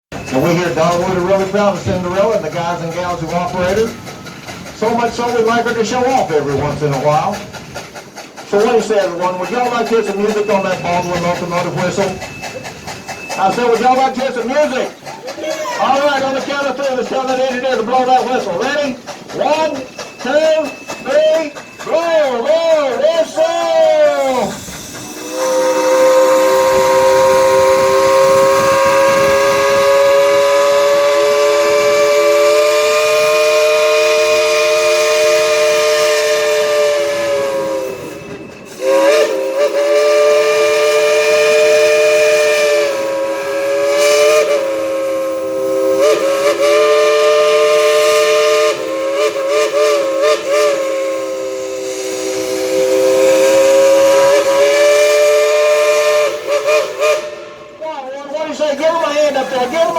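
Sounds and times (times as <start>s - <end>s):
chime steam whistle: 0.1s - 2.8s, 8.5s - 57.9s.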